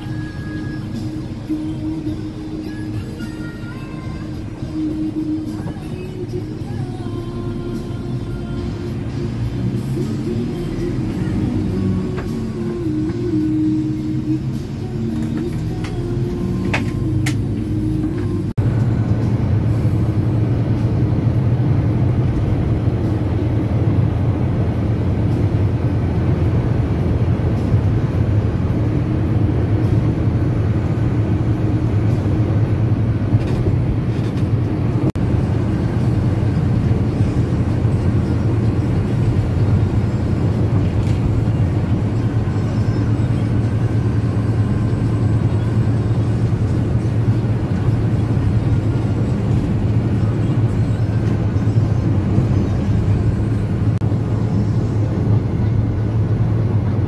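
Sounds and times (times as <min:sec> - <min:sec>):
bus engine and road noise: 0:00.0 - 0:57.0.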